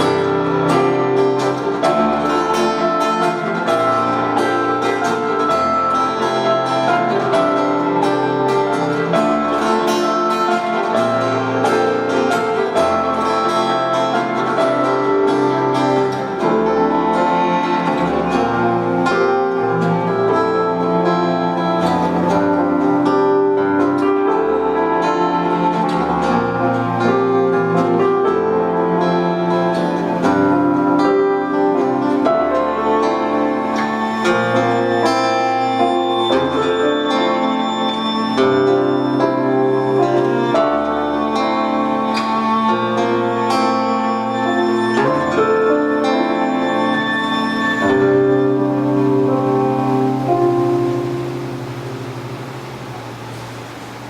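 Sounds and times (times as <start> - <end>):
bowed strings: 0.0 - 54.0
piano: 0.0 - 54.0
picked acoustic guitar: 0.0 - 54.0.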